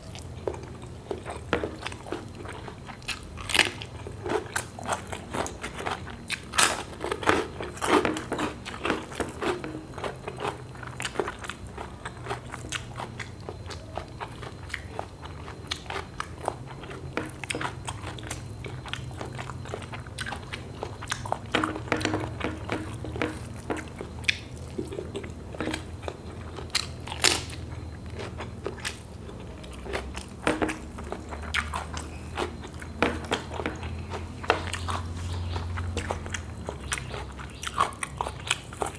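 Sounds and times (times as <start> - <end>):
person chewing food: 0.0 - 38.9
steady low hum: 0.0 - 38.9
crisp food crunches: 0.6 - 38.9.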